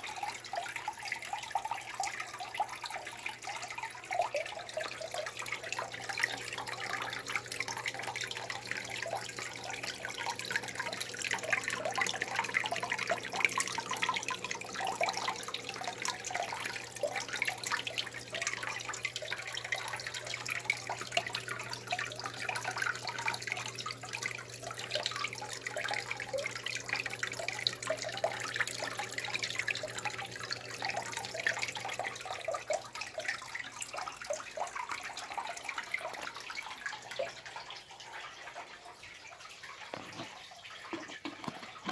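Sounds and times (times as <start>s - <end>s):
aquarium water bubbling: 0.0s - 41.9s.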